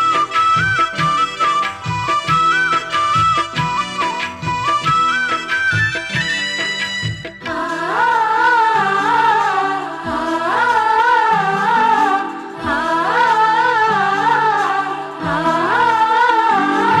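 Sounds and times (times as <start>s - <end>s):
song with wavering melody: 0.0s - 17.0s.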